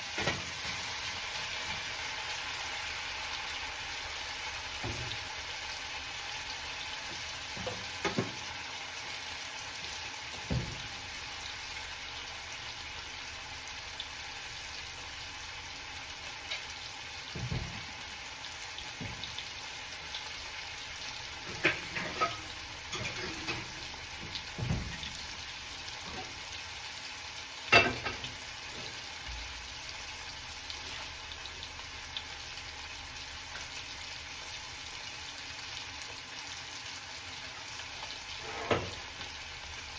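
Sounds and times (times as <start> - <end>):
potatoes sizzling in oil: 0.0 - 39.9.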